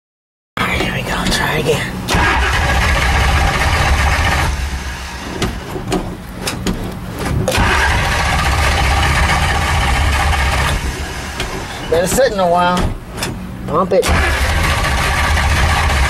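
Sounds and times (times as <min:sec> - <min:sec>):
car engine cranking on starter: 0:02.1 - 0:16.0.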